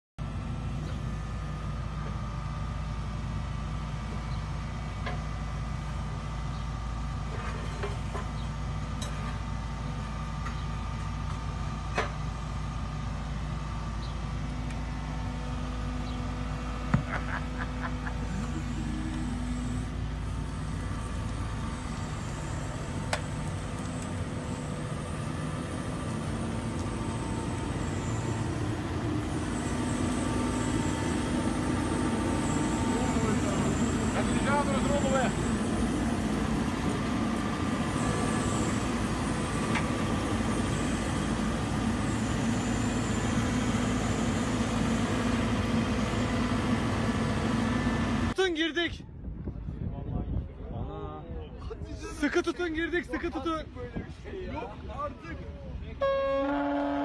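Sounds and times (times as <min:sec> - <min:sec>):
diesel engine running: 0:00.2 - 0:48.4.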